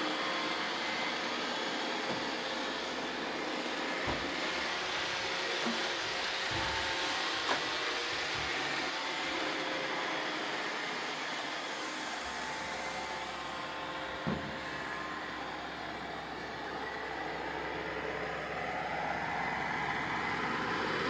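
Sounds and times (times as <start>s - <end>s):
robot vacuum cleaner humming: 0.0s - 21.0s.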